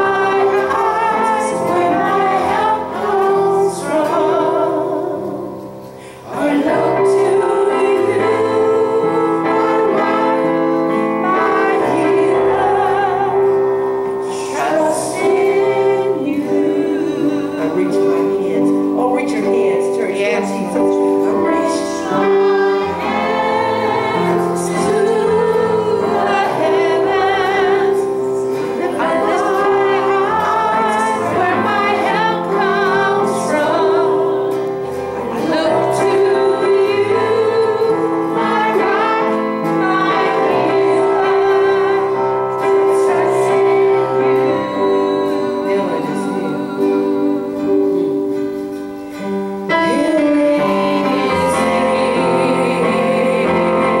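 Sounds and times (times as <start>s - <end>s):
woman singing into a microphone: 0.0s - 48.5s, 49.7s - 54.0s
guitar: 0.0s - 54.0s
piano: 0.0s - 54.0s.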